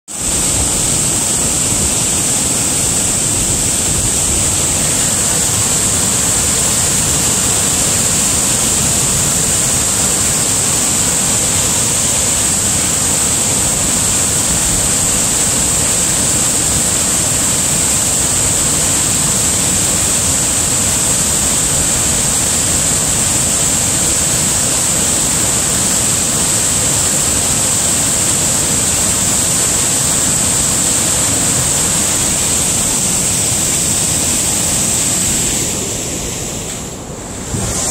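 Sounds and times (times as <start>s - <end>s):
waterfall rushing over rocks: 0.1s - 37.9s.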